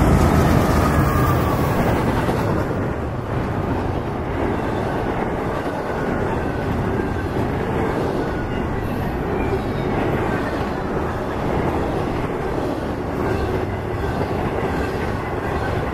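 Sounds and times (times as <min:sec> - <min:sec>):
freight train wheels rumbling: 0:00.0 - 0:15.9.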